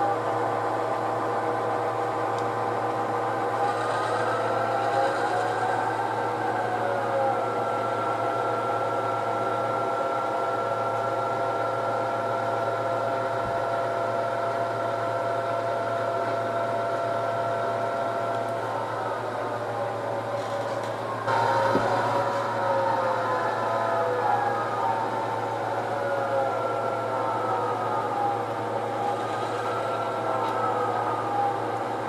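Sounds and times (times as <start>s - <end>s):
model train humming: 0.0s - 32.0s.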